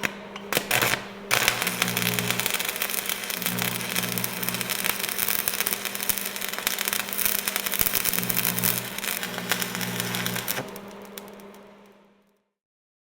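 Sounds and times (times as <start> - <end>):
low pulsing motor hum: 1.3 - 11.8.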